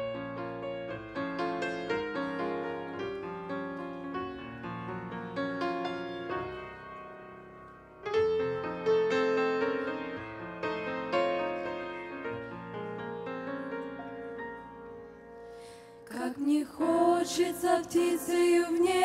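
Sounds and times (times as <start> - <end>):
slow grand piano chords: 0.0 - 19.0.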